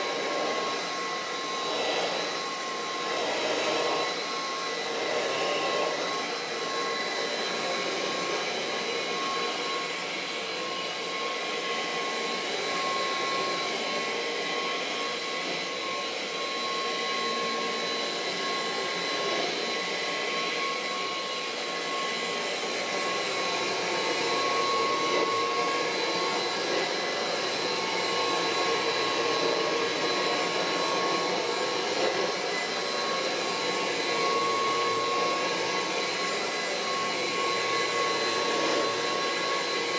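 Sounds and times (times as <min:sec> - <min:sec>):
vacuum cleaner with high whine: 0:00.0 - 0:39.9.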